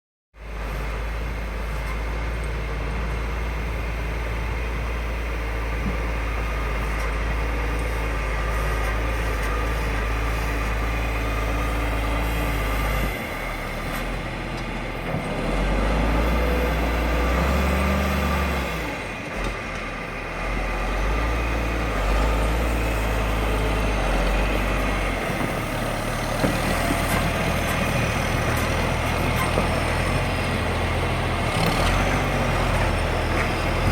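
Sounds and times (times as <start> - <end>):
snowplow truck engine: 0.4 - 33.9.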